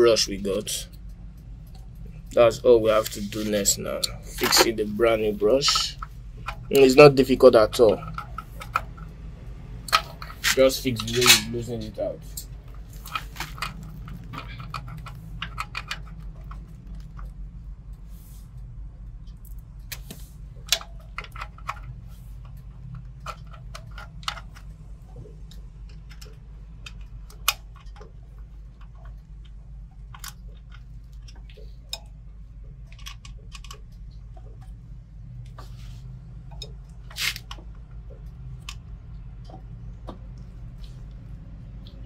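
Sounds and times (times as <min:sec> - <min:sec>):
hands handling wires and parts: 0:00.0 - 0:42.0
steady low hum: 0:00.0 - 0:42.0.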